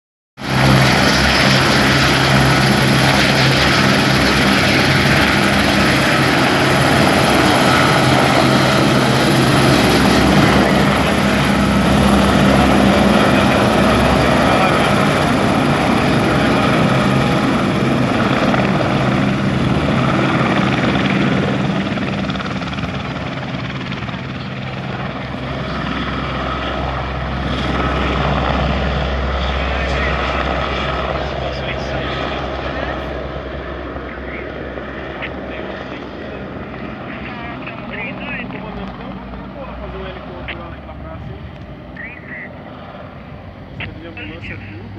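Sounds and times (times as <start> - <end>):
helicopter engine and rotor: 0.4 - 44.9.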